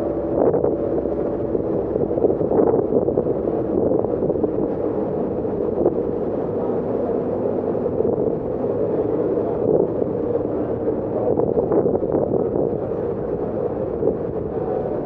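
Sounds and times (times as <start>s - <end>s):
ferry engine rumble: 0.0s - 15.0s
wind on microphone: 0.0s - 15.0s.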